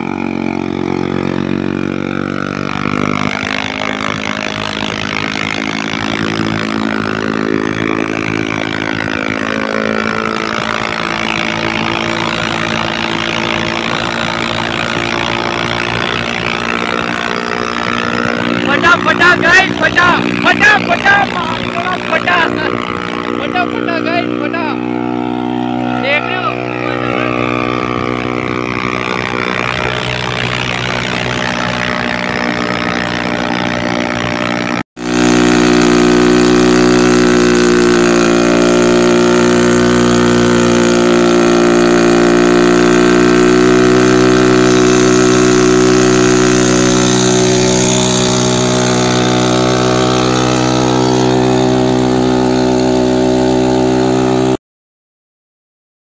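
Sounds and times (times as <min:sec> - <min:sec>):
motorcycle engine revving high: 0:00.0 - 0:54.6.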